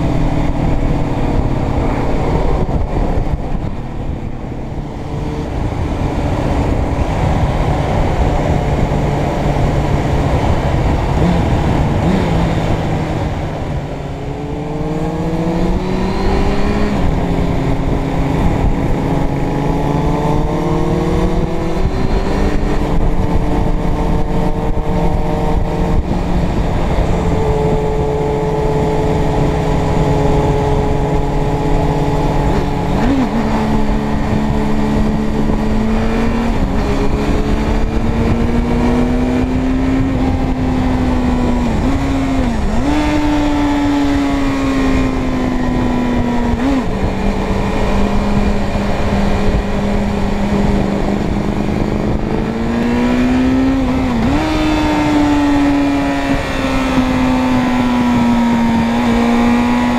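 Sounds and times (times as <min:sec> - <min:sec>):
motorcycle engine accelerating: 0:00.0 - 0:59.9
road noise: 0:00.0 - 0:59.9
wind noise: 0:00.0 - 0:59.9.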